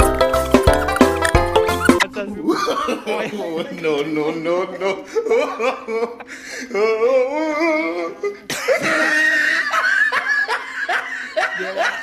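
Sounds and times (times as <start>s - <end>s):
people laughing: 0.8s - 12.0s.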